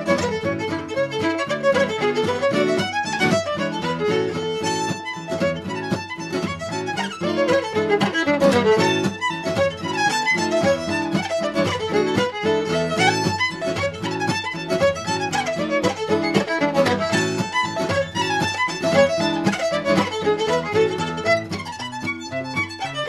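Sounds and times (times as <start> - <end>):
fast fiddle tune: 0.0 - 23.0.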